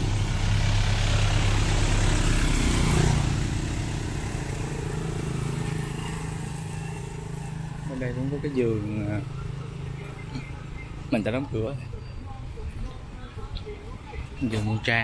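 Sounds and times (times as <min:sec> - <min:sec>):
truck driving past: 0:00.0 - 0:12.7
motorbike engine hum: 0:00.0 - 0:15.0
motorbike passing: 0:00.0 - 0:15.0.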